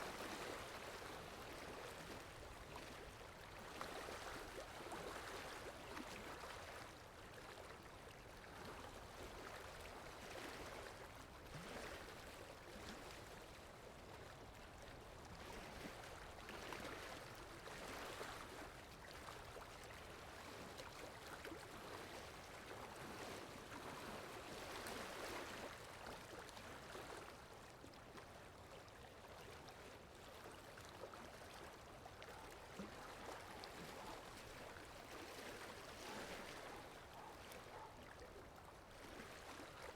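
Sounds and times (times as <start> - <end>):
sea water lapping: 0.0 - 39.9.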